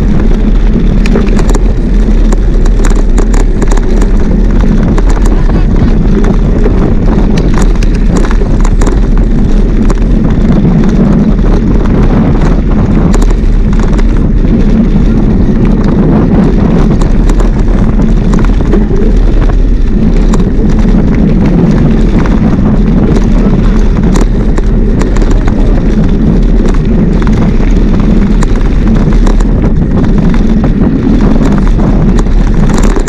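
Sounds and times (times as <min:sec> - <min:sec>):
clicks and rattles: 0:00.0 - 0:33.0
wind buffeting microphone: 0:00.0 - 0:33.0.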